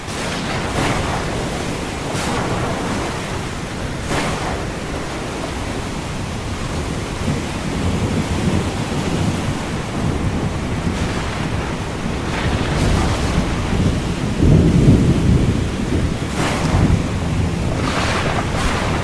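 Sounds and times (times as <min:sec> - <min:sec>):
distant thunder rumbling: 0:00.0 - 0:19.0
ocean waves breaking: 0:00.0 - 0:19.0.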